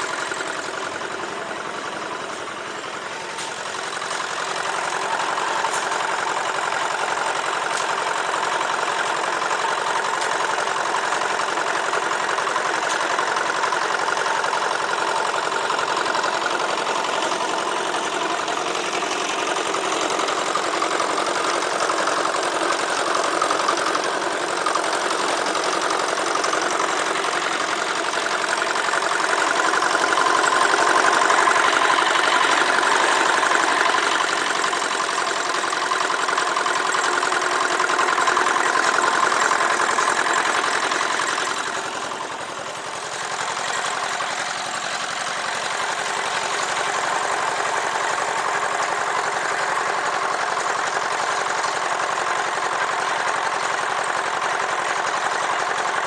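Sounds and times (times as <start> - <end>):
concrete mixer engine chugging: 0.0 - 56.0.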